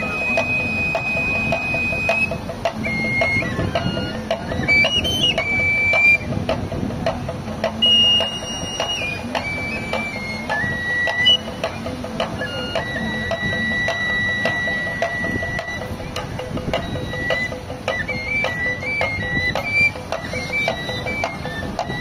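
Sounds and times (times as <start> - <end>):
hand drum steady beat: 0.0 - 22.0
reed flute melody: 0.0 - 22.0.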